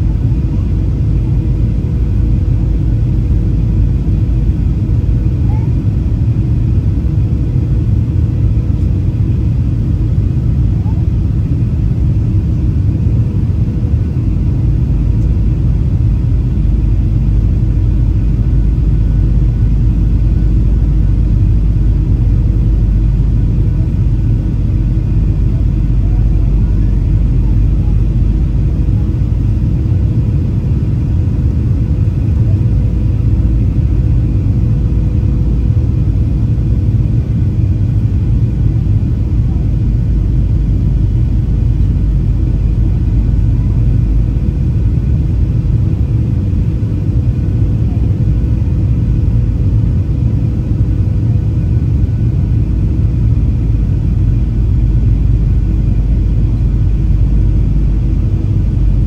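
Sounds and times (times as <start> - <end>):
faint steady whine: 0.0 - 59.0
jet engine roar: 0.0 - 59.0.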